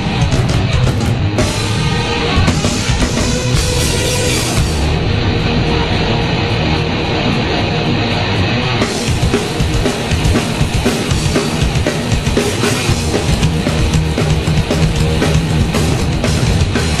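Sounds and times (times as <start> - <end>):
heavy rock music: 0.0 - 17.0.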